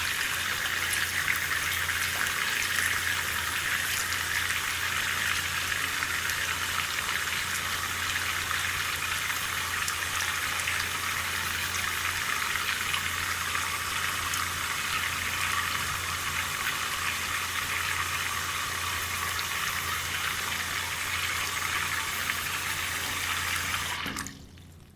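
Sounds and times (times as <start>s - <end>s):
tap water running into sink: 0.0s - 24.9s.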